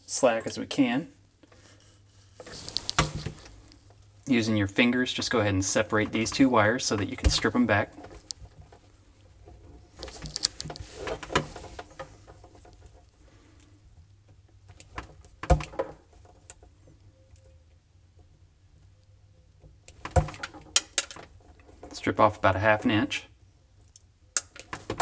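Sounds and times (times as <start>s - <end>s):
wires rustling: 1.4s - 22.6s.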